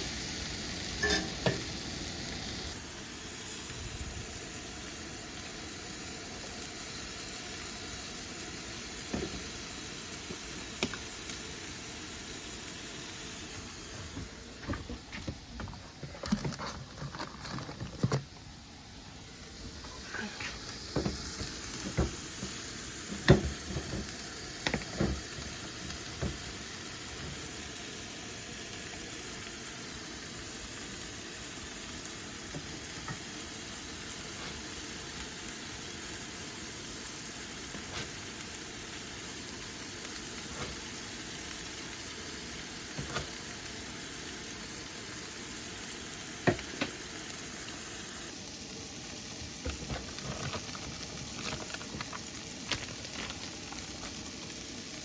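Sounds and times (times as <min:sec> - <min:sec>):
sizzling hiss: 0:00.0 - 0:55.0.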